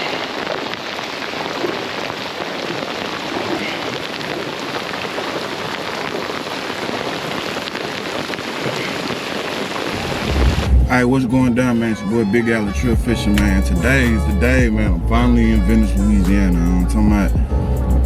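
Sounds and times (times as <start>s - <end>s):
rain falling: 0.0s - 17.4s.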